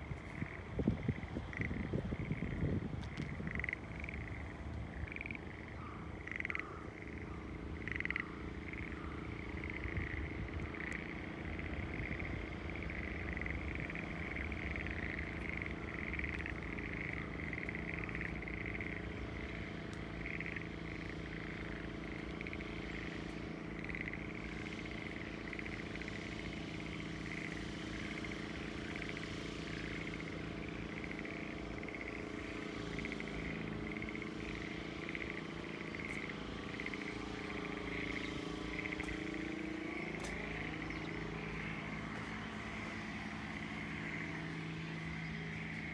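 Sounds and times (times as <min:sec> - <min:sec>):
approaching vehicle engine: 0:00.0 - 0:45.9
distant engine hum: 0:00.0 - 0:45.9
frogs chorus trilling: 0:00.0 - 0:45.9.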